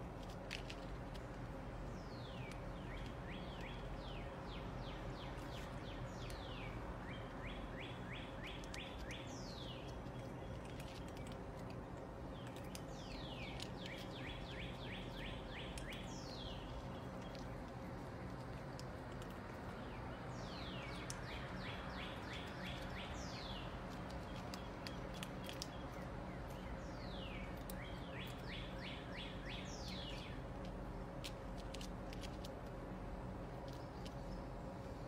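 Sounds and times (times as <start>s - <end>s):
songbird singing: 0.2s - 35.0s.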